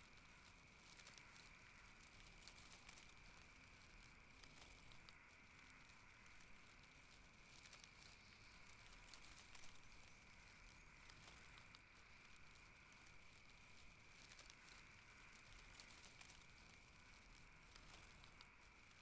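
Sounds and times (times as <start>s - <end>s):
faint ticks: 0.0s - 19.0s.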